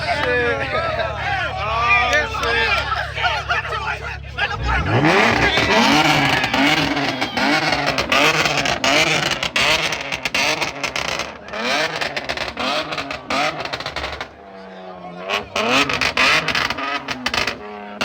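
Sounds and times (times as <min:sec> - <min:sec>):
exhaust pops and crackles: 0:00.0 - 0:14.5, 0:15.3 - 0:18.0
car engine revving: 0:00.0 - 0:18.0.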